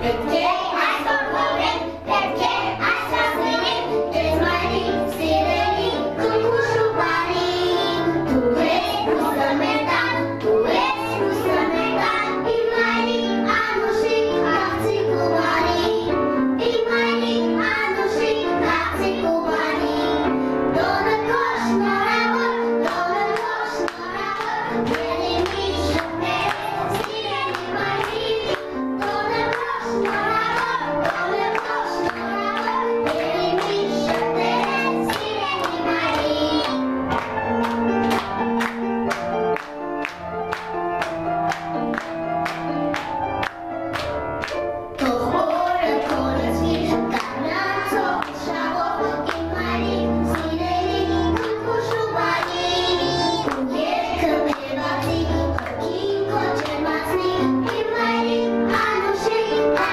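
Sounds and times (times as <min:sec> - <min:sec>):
children singing: 0:00.0 - 0:38.2, 0:45.0 - 0:59.9.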